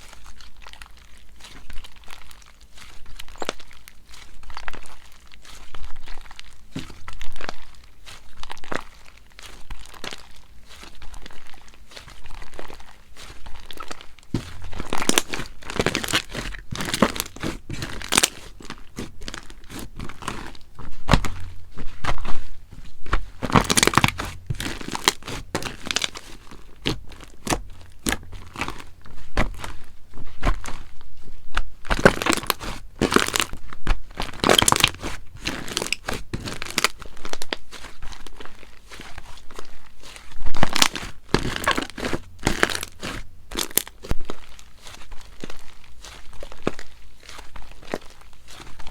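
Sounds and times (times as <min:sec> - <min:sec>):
slime squeezed by hand crackling: 0:00.6 - 0:48.9.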